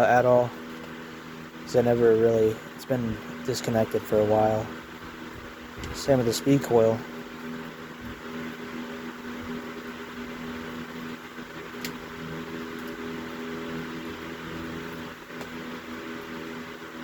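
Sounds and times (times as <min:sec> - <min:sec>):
fan motor hum and air rush: 0:00.0 - 0:17.0.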